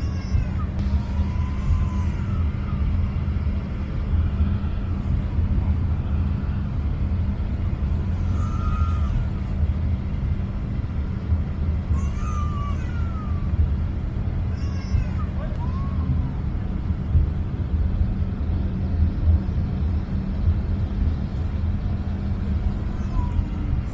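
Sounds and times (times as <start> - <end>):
jet engines and rushing air drone: 0.0 - 23.9.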